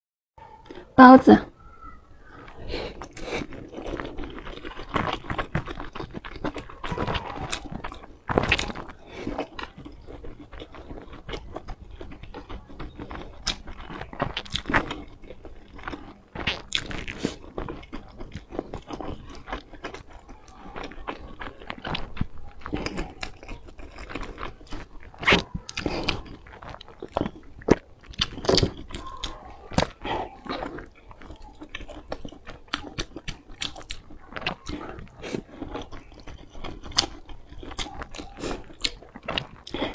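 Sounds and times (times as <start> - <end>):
wet chewing: 0.4 - 39.9
lip smacks and clicks: 2.4 - 39.9.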